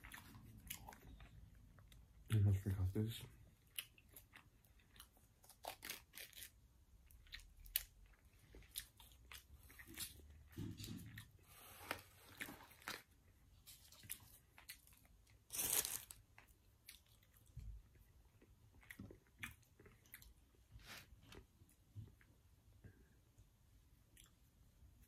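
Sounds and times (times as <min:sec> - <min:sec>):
person chewing food: 0:00.0 - 0:02.4, 0:03.4 - 0:22.4, 0:24.0 - 0:25.0.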